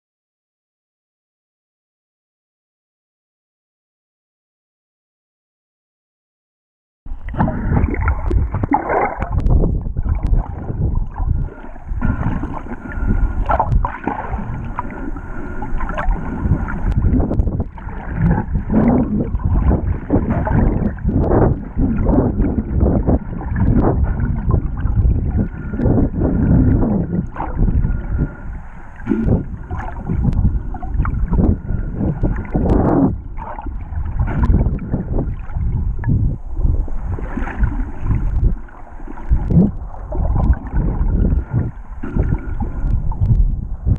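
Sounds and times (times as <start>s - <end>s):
water rushing and sloshing: 7.1s - 43.9s.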